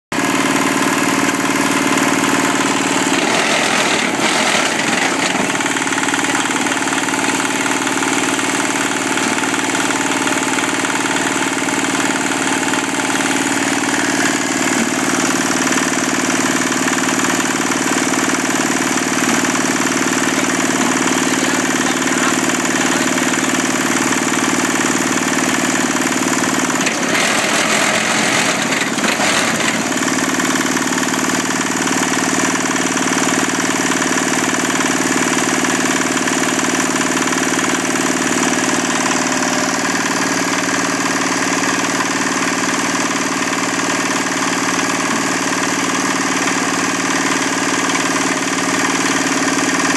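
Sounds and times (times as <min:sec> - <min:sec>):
diesel engine idling: 0:00.2 - 0:49.9
rougher noisier engine sound: 0:00.2 - 0:49.9.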